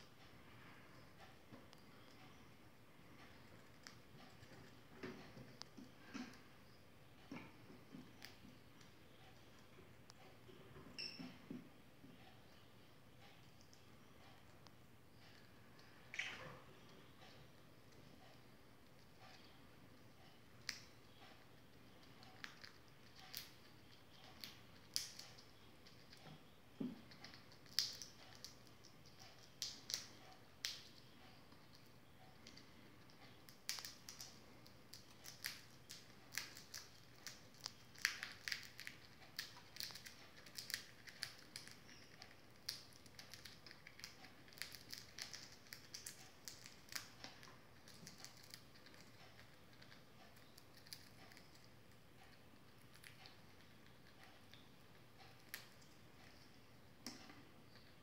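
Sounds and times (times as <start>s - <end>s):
squirrel gnawing an acorn: 1.0s - 10.2s, 13.2s - 58.0s.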